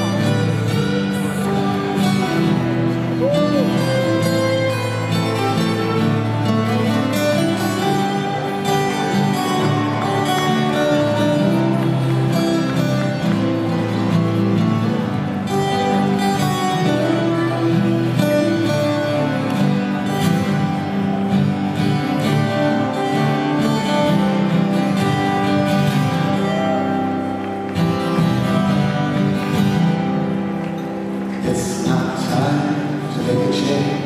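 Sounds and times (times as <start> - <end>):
acoustic guitars folk ballad: 0.0 - 34.0.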